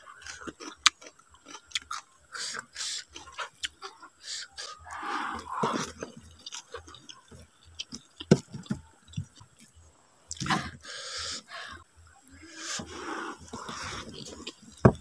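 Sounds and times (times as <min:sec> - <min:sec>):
person chewing food: 0:00.0 - 0:10.7, 0:12.3 - 0:15.0.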